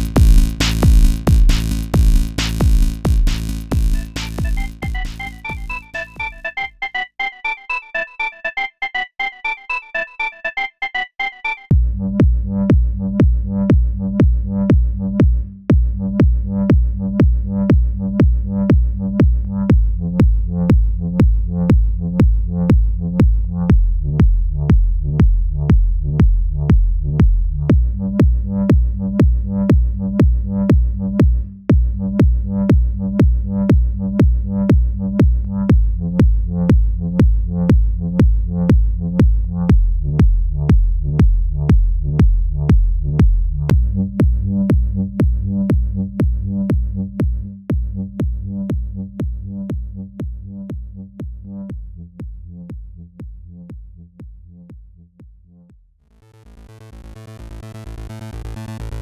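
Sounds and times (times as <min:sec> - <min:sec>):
electronic music with kick drum: 0:00.0 - 0:59.0.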